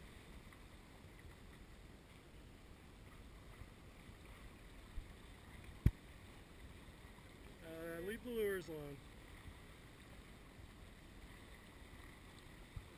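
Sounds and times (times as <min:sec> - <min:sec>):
boat wake rushing and hissing: 0:00.0 - 0:12.9.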